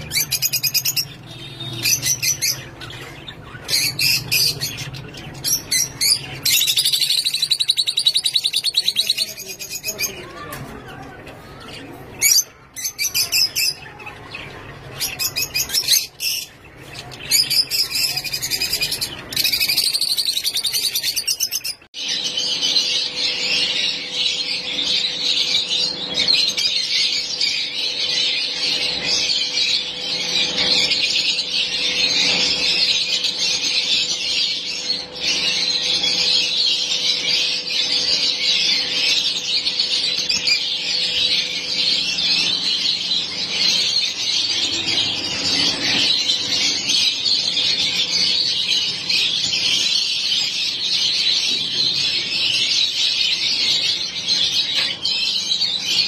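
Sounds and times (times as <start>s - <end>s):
flock of birds chattering: 0.0s - 56.0s
lovebirds chirping: 0.0s - 56.0s.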